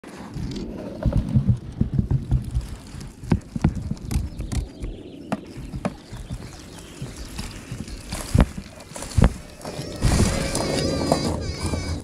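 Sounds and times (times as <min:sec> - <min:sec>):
leaves rustling: 0:02.2 - 0:12.0.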